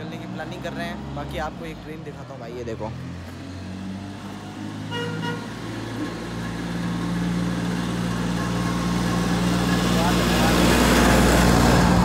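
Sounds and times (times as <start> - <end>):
road train engine humming: 0.0 - 12.0.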